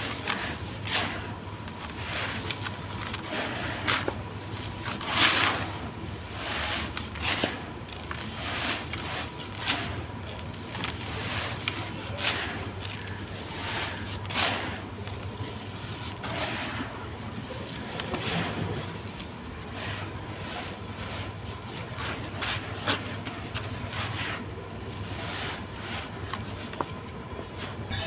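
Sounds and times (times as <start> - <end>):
blocks crushed with gritty crunches: 0.0 - 27.8.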